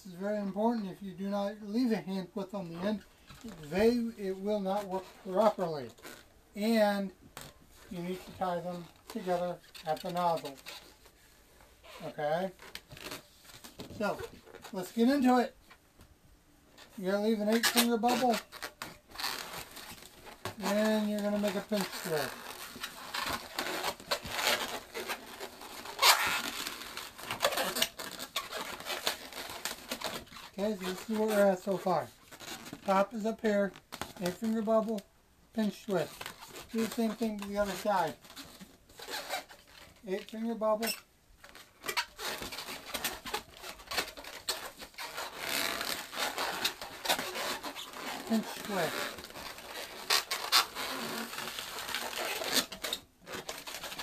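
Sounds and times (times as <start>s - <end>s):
balloons squeaking and rubbing: 0.0s - 15.7s, 16.7s - 54.0s.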